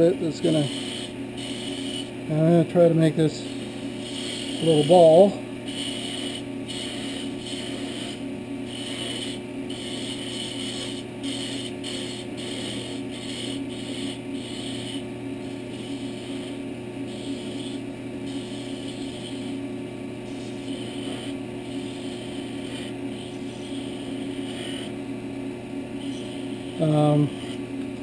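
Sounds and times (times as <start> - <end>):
chisel scraping spinning wood: 0.0 - 19.6, 20.2 - 25.0, 26.0 - 27.8
lathe motor hum: 0.0 - 28.0.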